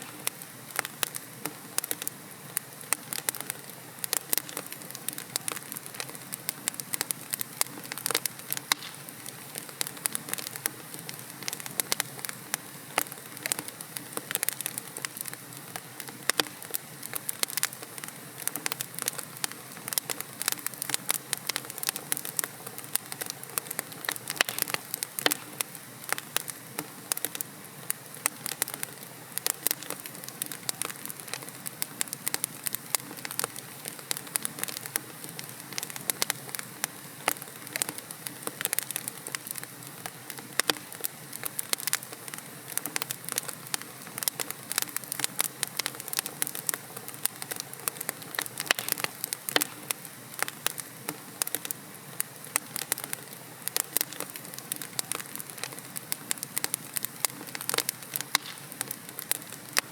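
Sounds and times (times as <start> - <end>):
sharp pops and snaps: 0.0 - 12.4, 13.0 - 27.4, 28.2 - 59.9
wood fire crackling: 0.0 - 59.9.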